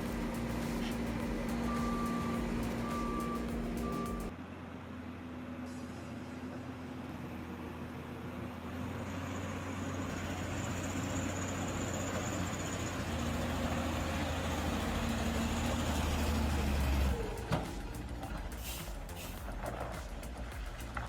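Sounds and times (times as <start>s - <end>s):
large machine engine droning: 0.0s - 20.5s.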